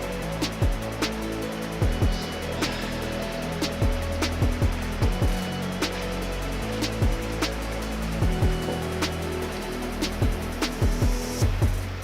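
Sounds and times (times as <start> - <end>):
electronic music with a beat: 0.0 - 12.0
deep bass kicks: 0.5 - 2.4, 3.6 - 12.0.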